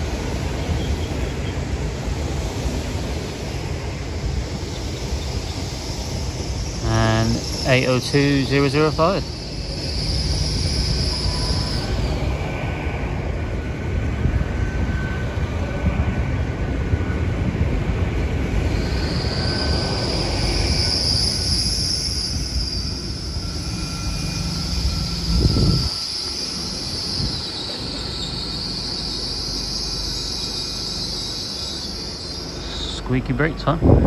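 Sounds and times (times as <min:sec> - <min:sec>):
train brakes squealing: 0:00.0 - 0:13.7, 0:14.3 - 0:16.0, 0:18.4 - 0:33.6
train low rumble: 0:00.0 - 0:34.0.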